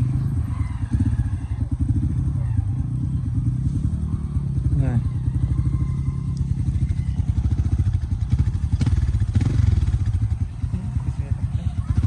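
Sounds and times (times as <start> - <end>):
motorcycle engine low pulsing: 0.0 - 12.0.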